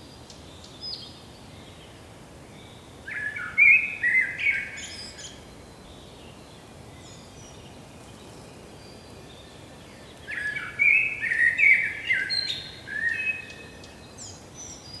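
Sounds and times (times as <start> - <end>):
songbirds singing and chirping: 2.6 - 15.0.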